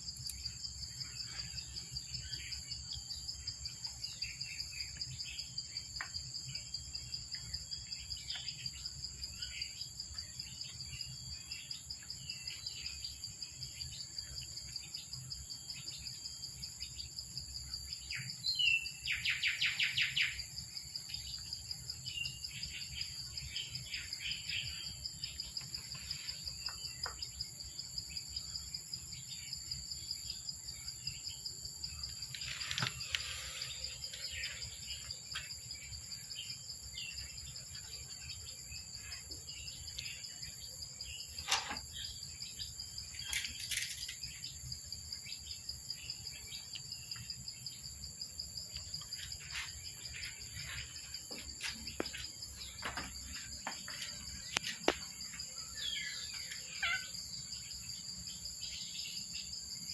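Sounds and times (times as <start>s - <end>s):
insect chorus trilling: 0.0s - 59.9s
small birds chirping: 0.0s - 59.9s.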